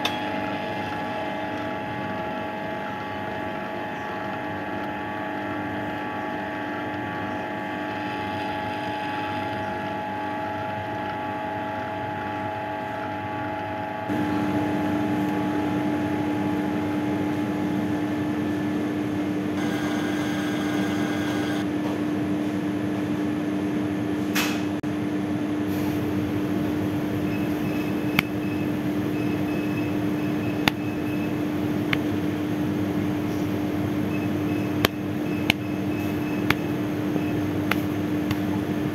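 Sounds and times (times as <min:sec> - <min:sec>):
dough mixer motor humming: 0:00.0 - 0:21.7, 0:26.5 - 0:38.9.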